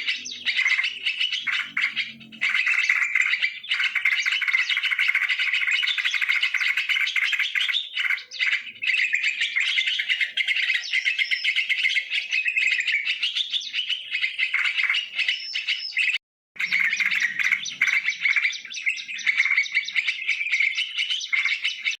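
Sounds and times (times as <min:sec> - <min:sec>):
bulbuls chattering and chirping: 0:00.0 - 0:22.0.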